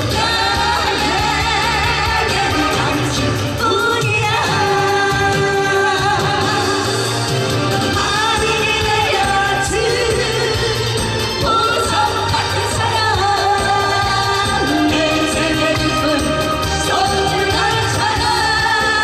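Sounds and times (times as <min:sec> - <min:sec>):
instrumental accompaniment: 0:00.0 - 0:19.0
man and woman singing duet: 0:00.0 - 0:19.0.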